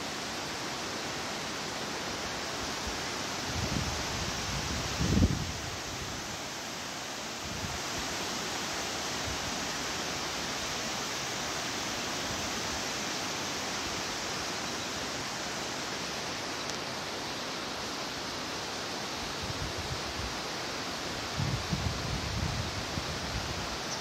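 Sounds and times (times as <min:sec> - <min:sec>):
waterfall and river rushing: 0:00.0 - 0:24.0.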